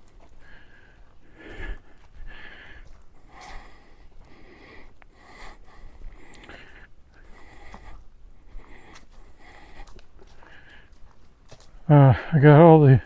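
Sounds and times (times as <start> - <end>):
man breathing heavily: 0.0 - 13.0.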